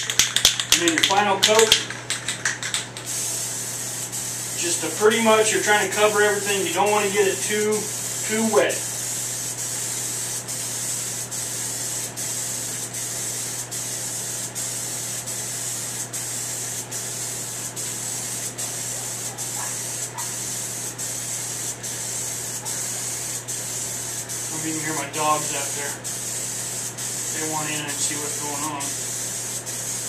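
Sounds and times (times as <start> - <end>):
aerosol spray can hissing: 0.1 - 30.0.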